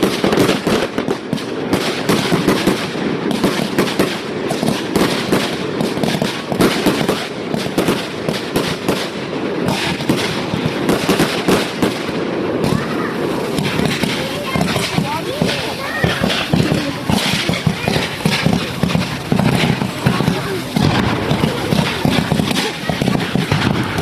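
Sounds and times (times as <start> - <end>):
fireworks bangs and crackle: 0.0 - 24.0.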